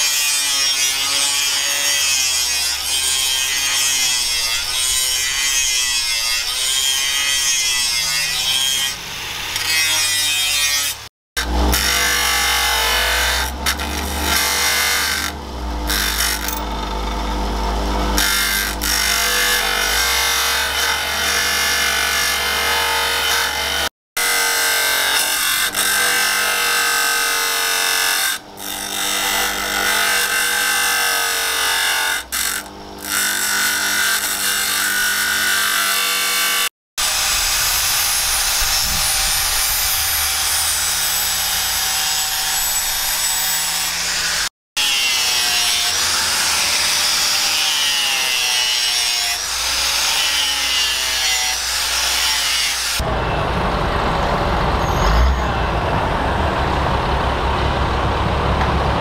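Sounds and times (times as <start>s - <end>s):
angle grinder sanding blade: 0.0s - 53.0s
grinder grinding steel: 0.0s - 54.0s.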